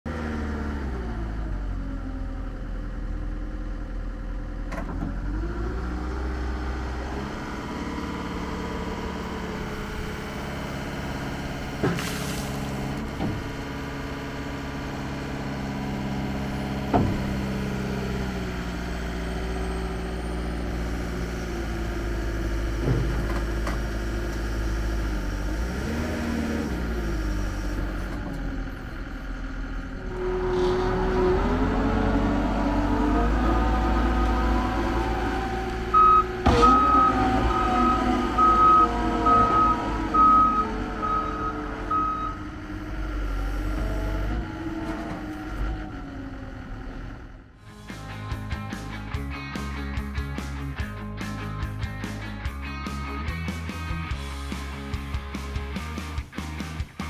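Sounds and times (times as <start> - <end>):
loader diesel engine running: 0.1 - 57.0.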